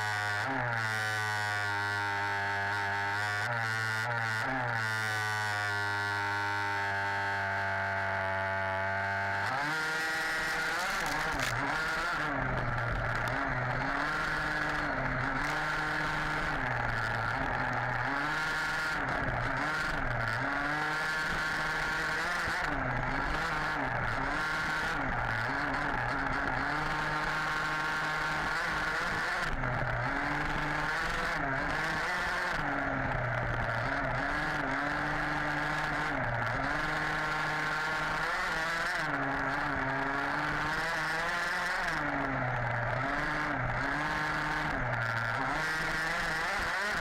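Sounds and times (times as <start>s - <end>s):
small two-stroke engine revving: 0.0s - 47.0s.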